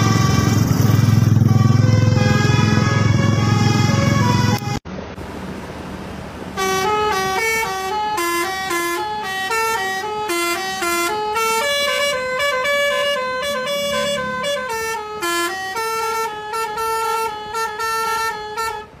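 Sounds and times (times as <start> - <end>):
multi-tone air horn melody: 0.0 - 4.8, 6.6 - 19.0.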